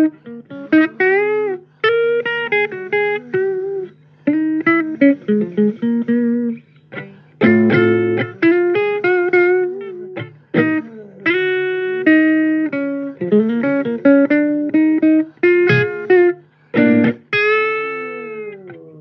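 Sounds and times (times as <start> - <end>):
electric guitar blues line: 0.0 - 19.0.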